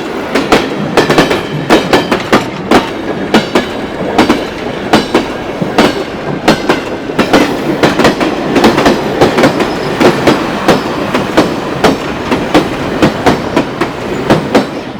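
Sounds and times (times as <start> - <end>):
steam train rumbling past: 0.0 - 14.9.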